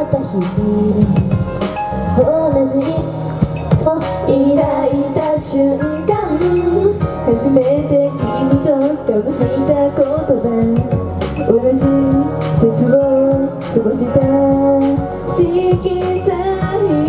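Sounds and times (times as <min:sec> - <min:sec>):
pop backing music: 0:00.0 - 0:17.0
women singing into microphones: 0:00.0 - 0:17.0.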